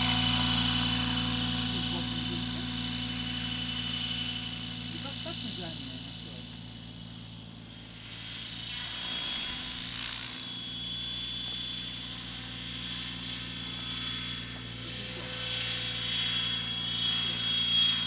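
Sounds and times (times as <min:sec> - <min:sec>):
helicopter rotor hum: 0:00.0 - 0:18.0
high motor whine: 0:00.0 - 0:18.0.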